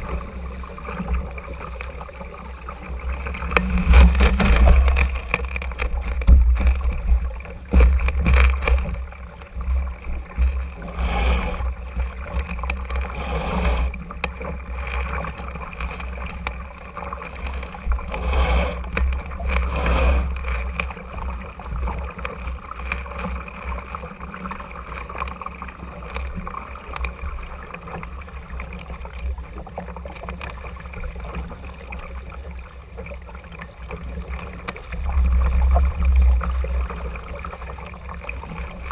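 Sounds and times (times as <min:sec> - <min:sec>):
water rushing along boat hull: 0:00.0 - 0:38.9
water splashes: 0:00.0 - 0:38.9.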